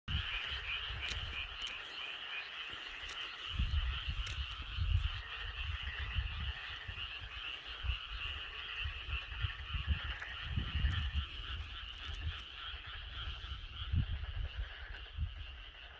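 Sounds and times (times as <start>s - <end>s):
chorus of frogs calling: 0.1s - 15.9s.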